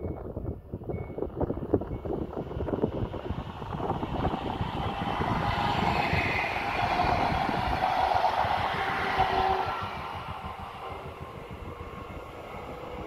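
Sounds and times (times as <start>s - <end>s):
wind rumbling on microphone: 0.0s - 13.0s
electric train passing with whine: 1.2s - 13.0s.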